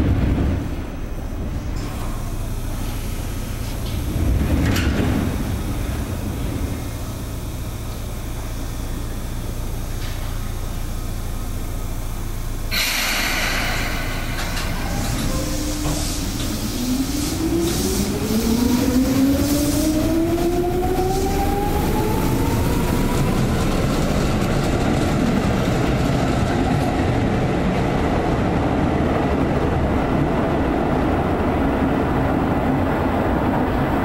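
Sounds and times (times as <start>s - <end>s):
train cars rolling rumble: 0.0s - 34.0s.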